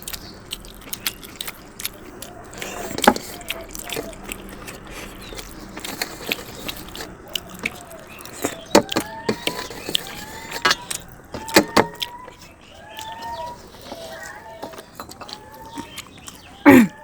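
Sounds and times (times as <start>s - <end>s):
birds chirping: 0.0s - 17.0s
chewing and crunching food: 0.0s - 17.0s.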